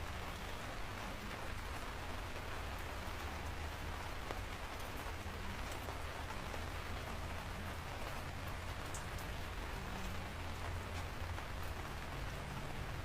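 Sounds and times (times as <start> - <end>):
raindrops ticking: 0.0 - 13.0
steady rain hiss: 0.0 - 13.0.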